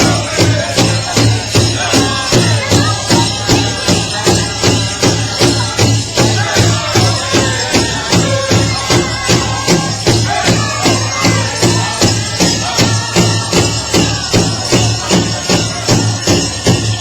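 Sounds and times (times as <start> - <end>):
large drum steady beat: 0.0 - 17.0.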